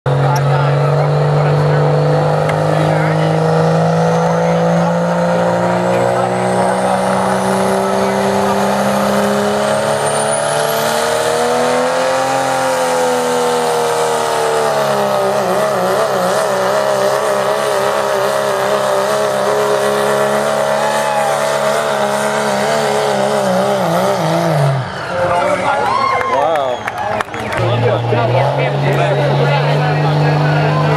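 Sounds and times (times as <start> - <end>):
pulling truck engine running flat out: 0.1 - 30.9.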